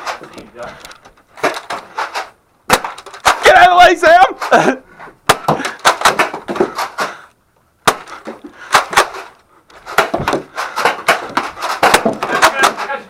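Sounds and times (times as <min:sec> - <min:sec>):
foam darts hitting hard surfaces: 0:01.4 - 0:07.2, 0:07.8 - 0:13.0.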